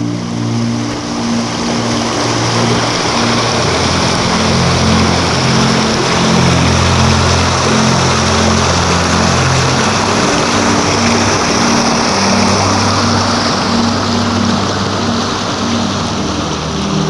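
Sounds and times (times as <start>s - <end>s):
background music held notes: 0.0s - 17.0s
river rapids rushing over rocks: 0.0s - 17.0s.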